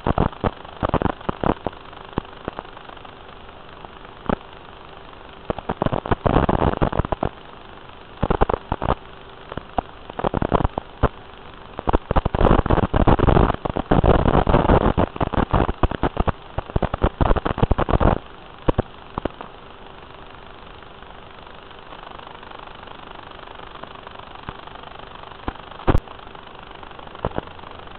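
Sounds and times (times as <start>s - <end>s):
crackling static: 0.0s - 27.9s
faint hum: 0.0s - 27.9s.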